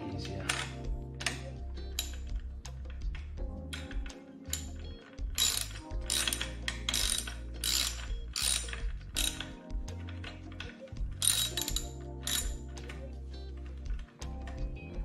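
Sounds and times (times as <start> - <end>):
ratchet wrench clicking: 0.4 - 13.1.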